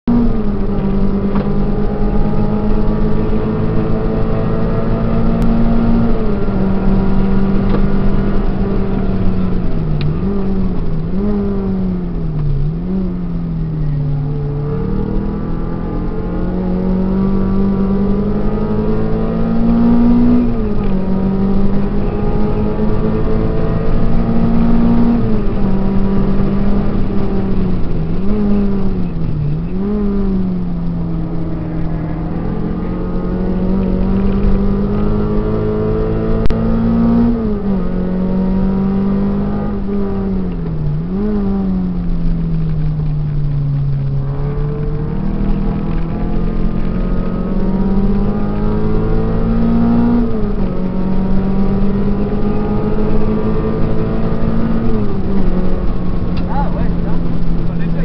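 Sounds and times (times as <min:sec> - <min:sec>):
car engine revving in cabin: 0:00.0 - 0:58.0.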